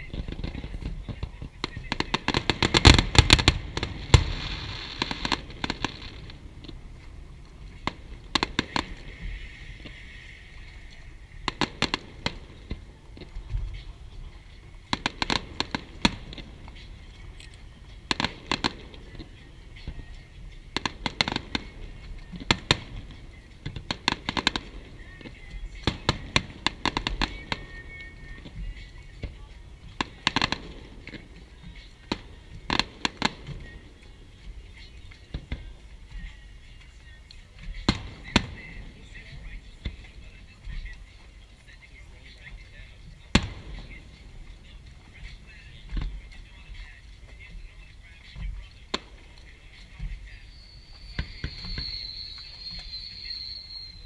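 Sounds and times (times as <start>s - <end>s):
fireworks bangs and crackling: 0.0s - 10.4s, 11.1s - 34.2s, 37.6s - 41.0s, 42.4s - 46.8s, 48.4s - 54.0s.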